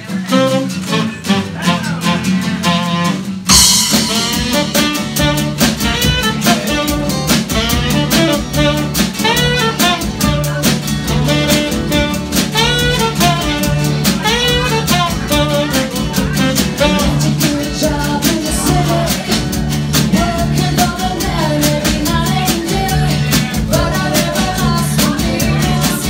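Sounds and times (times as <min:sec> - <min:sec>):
drum kit: 0:00.0 - 0:26.0
live band playing: 0:00.0 - 0:26.0
strummed acoustic guitars: 0:00.0 - 0:26.0.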